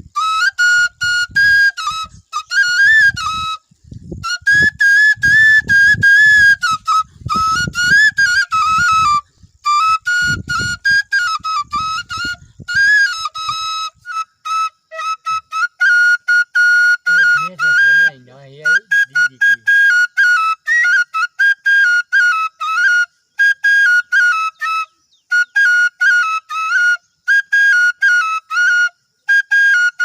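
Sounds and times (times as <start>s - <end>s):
bamboo flute melody: 0.0s - 30.0s.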